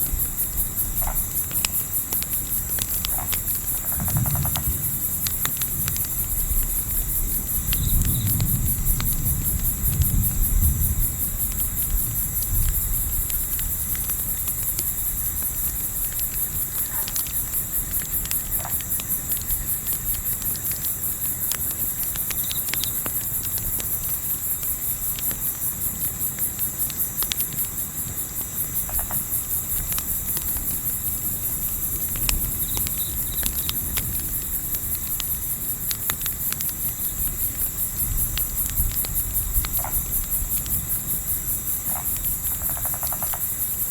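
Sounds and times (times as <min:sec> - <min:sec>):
campfire crackling pops: 0:00.0 - 0:43.7
crickets chirping: 0:00.0 - 0:43.9.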